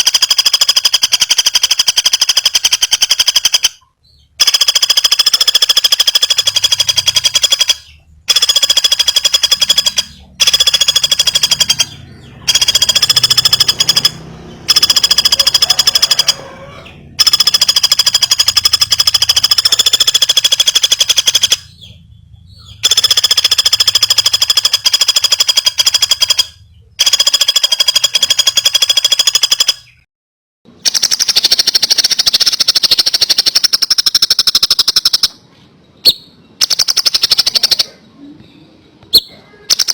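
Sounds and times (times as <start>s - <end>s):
bird rapid rattling trills: 0.0s - 30.0s, 30.8s - 35.4s, 36.0s - 37.9s.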